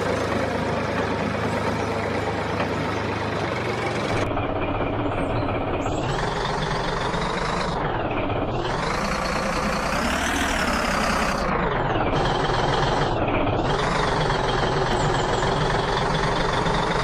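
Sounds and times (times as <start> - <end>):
heavy diesel engine revving: 0.0 - 17.0.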